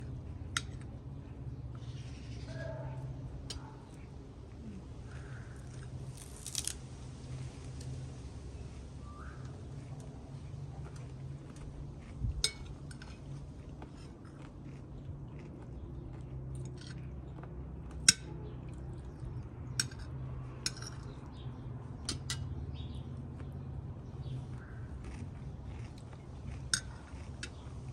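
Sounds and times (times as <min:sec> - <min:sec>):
chewing: 0:00.0 - 0:06.7, 0:08.6 - 0:20.2, 0:23.1 - 0:27.9
steady low hum: 0:00.0 - 0:27.9.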